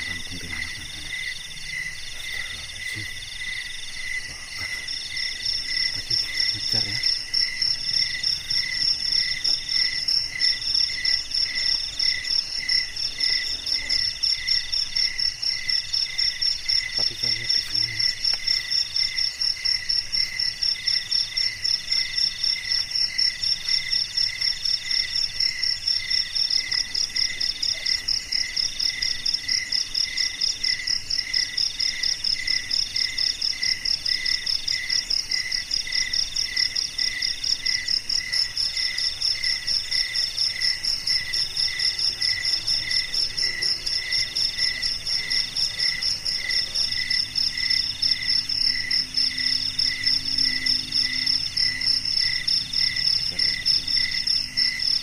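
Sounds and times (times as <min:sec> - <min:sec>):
insect call in long notes: 0:00.0 - 0:55.0
low cricket chirp: 0:00.0 - 0:55.0.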